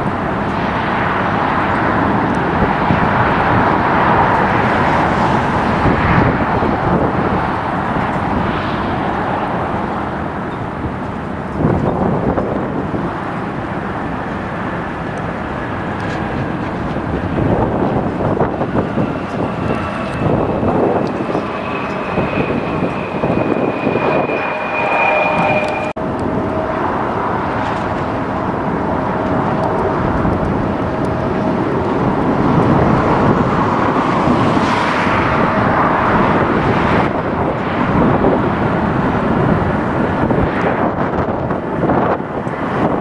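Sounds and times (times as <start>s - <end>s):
high jet engine whine: 0.0s - 43.0s
jet engine rumble: 0.0s - 43.0s.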